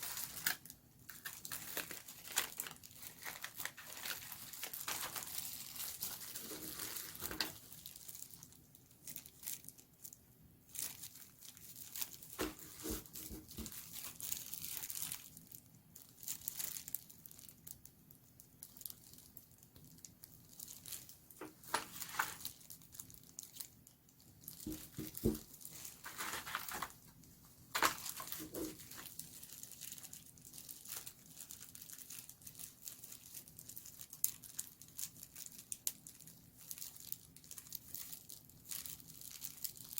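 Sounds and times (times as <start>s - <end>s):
plastic and paper crinkling: 0.0s - 39.9s.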